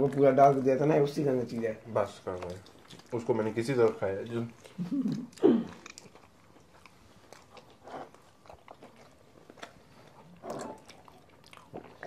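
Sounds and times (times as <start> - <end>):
people chewing pizza: 0.0 - 12.0.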